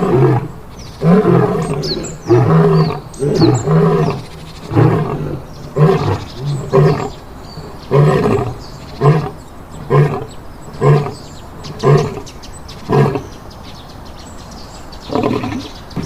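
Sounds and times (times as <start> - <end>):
lion roaring: 0.0 - 12.3, 12.9 - 13.3, 15.1 - 16.0.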